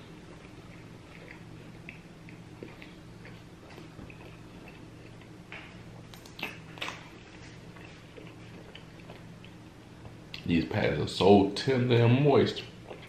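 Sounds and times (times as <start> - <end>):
wet chewing mouth clicks: 0.0 - 10.5, 12.6 - 13.0.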